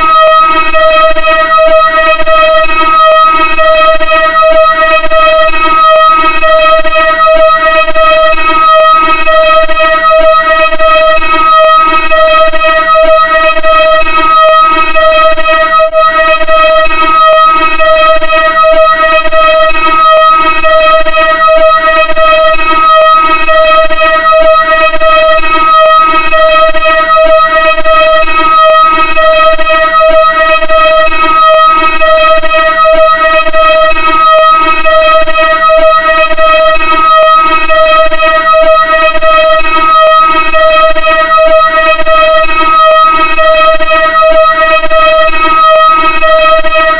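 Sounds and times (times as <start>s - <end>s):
electronic vocoder drone: 0.0s - 46.9s.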